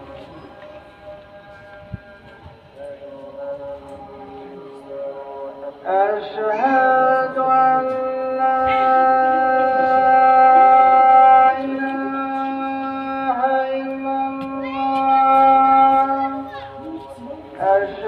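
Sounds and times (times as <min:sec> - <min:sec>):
man chanting call to prayer: 0:00.0 - 0:18.0.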